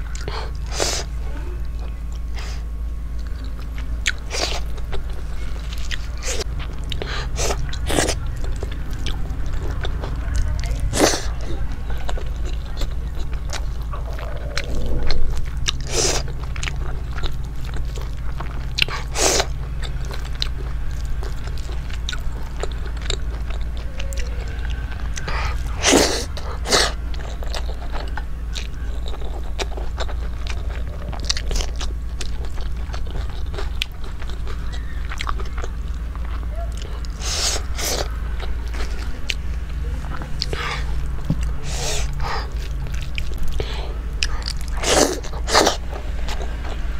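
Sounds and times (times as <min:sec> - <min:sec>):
person chewing and lip-smacking: 0:00.0 - 0:46.9
steady low hum: 0:00.0 - 0:46.9.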